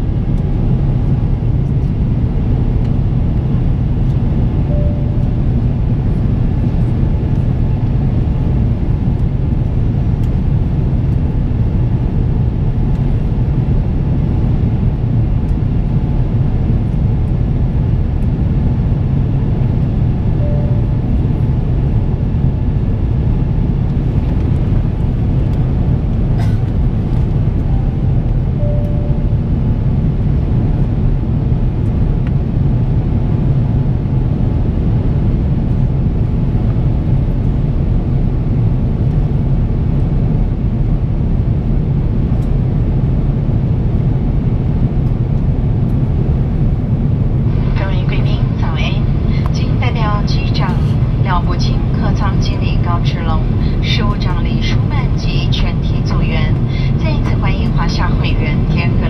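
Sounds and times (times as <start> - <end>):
airplane cabin rumble: 0.0 - 59.0
jet engine drone: 0.0 - 59.0.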